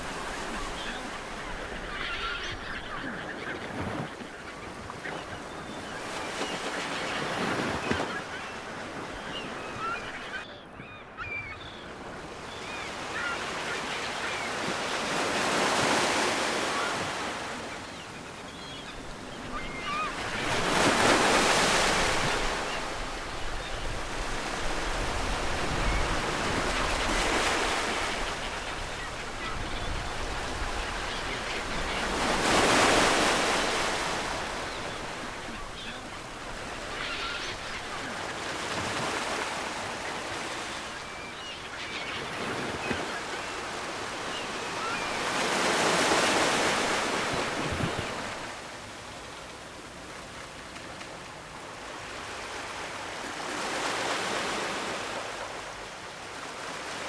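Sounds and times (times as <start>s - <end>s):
ocean surf on shore: 0.0s - 10.0s, 12.4s - 50.7s.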